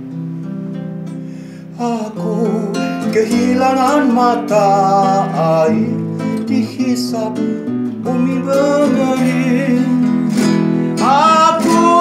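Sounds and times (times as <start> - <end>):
strummed nylon-string guitar: 0.0 - 12.0
man singing: 1.6 - 12.0.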